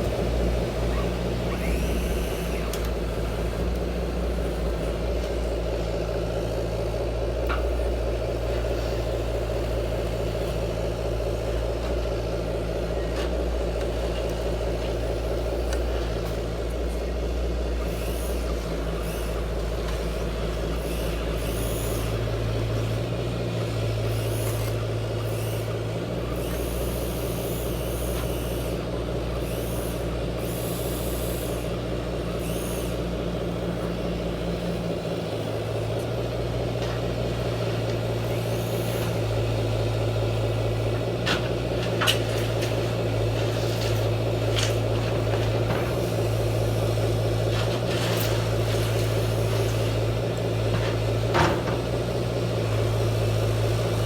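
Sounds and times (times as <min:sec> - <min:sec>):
model construction machine humming: 0:00.0 - 0:54.0.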